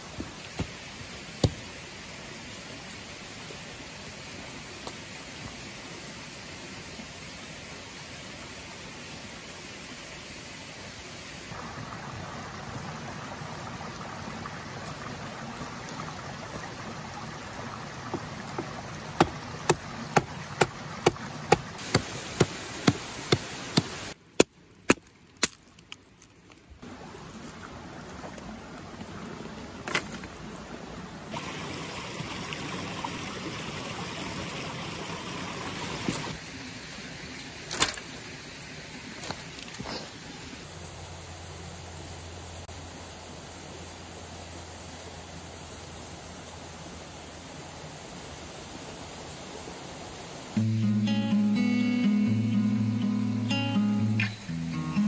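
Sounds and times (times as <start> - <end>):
mountain stream running: 0.0 - 55.0.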